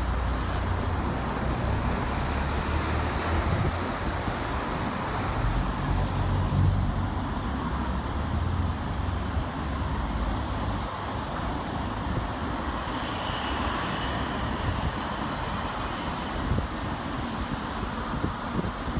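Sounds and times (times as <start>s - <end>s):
cars passing on road: 0.0s - 18.9s
low traffic rumble: 0.0s - 18.9s.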